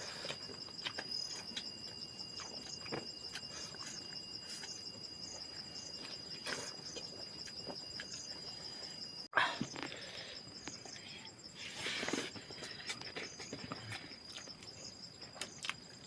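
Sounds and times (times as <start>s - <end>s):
insects trilling chorus: 0.0s - 16.0s.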